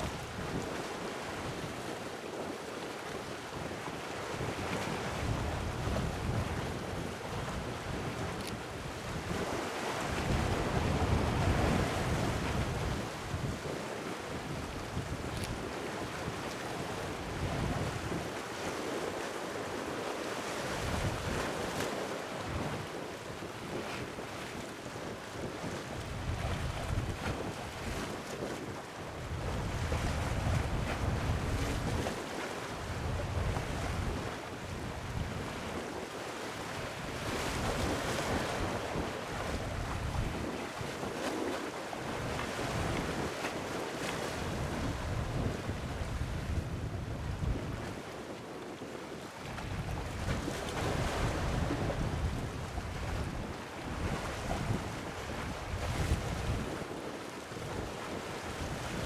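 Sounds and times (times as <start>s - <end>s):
wind on microphone: 3.5s - 18.4s, 20.7s - 36.1s, 36.7s - 59.0s.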